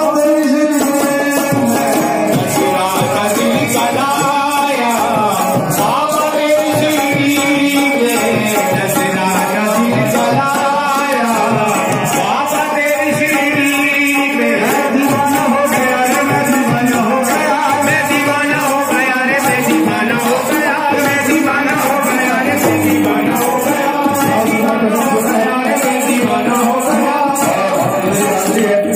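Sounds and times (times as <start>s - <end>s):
jingling percussion beat: 0.0s - 28.9s
man singing devotional song: 0.0s - 28.9s
tabla: 0.0s - 28.9s.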